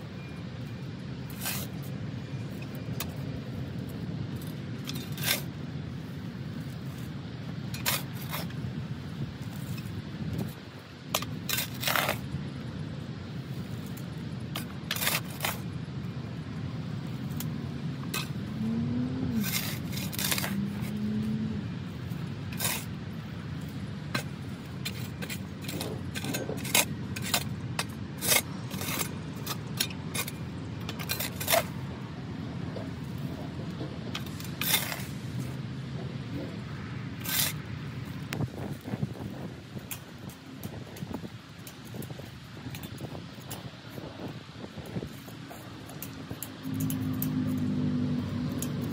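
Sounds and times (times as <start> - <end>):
shovel scraping dry soil: 1.2 - 3.4, 4.3 - 8.7, 9.4 - 12.4, 13.1 - 15.8, 17.3 - 31.9, 32.7 - 35.6, 36.4 - 48.9.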